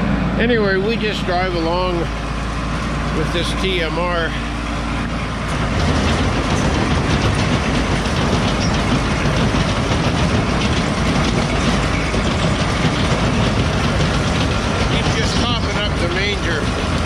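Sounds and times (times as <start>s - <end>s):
feed mixer rumbling and rattling: 0.0s - 17.0s.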